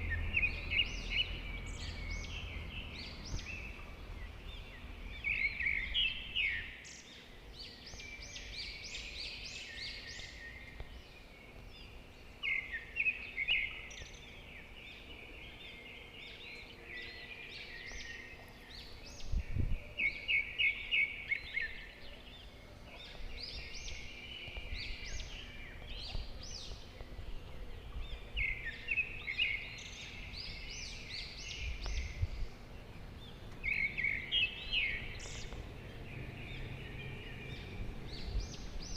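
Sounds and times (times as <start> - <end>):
faint outdoor background: 0.0 - 38.9
songbird singing: 0.0 - 38.9.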